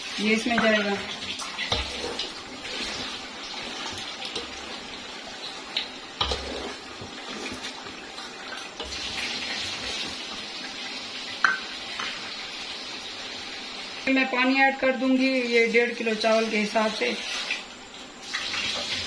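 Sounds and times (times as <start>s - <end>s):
meat sizzling in hot oil: 0.0s - 19.0s.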